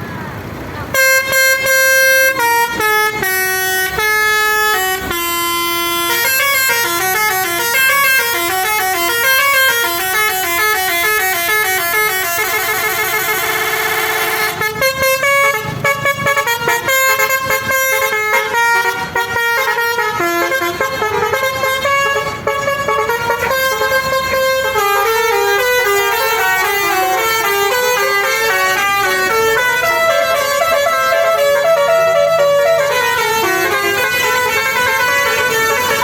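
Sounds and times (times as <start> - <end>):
bus air horn melody: 0.7 - 36.0.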